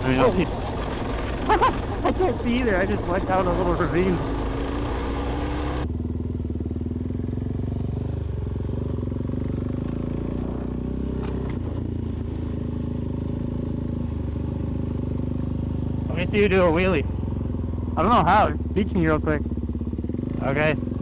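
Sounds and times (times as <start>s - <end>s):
motorcycle engine running steadily: 1.0s - 21.0s.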